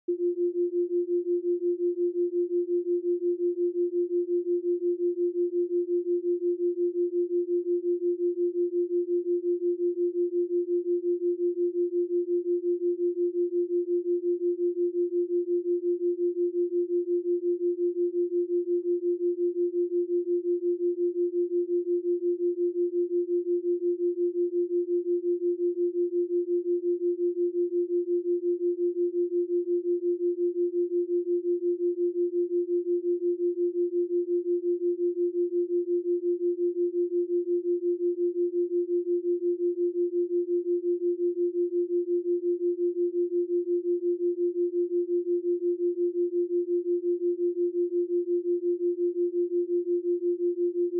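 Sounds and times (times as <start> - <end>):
pulsing sine tone: 0.1 - 50.9.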